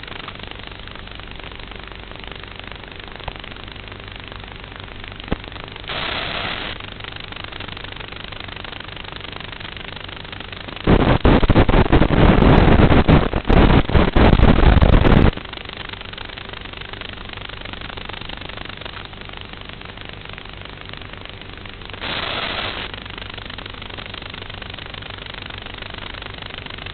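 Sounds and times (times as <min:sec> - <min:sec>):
harsh crackling noise: 0:00.0 - 0:26.9
motor hum: 0:00.0 - 0:26.9.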